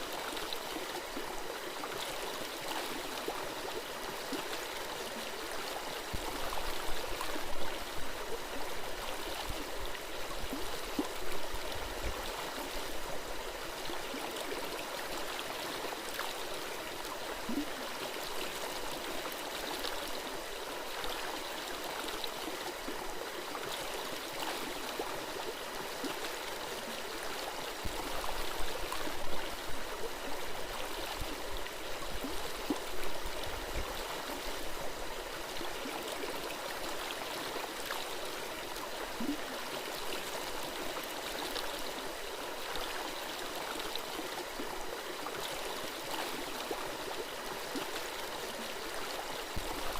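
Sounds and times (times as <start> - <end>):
stream flowing and gurgling: 0.0 - 49.9.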